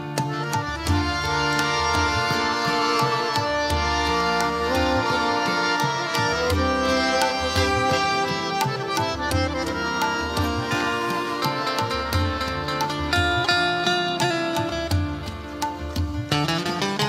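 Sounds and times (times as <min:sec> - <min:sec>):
harmonium melody: 0:00.0 - 0:17.0
tabla strokes: 0:00.0 - 0:17.0.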